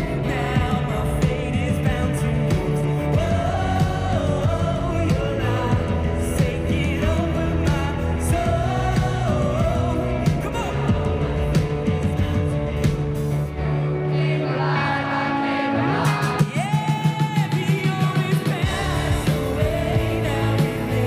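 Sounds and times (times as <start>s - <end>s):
pop-rock band playing: 0.0s - 21.0s.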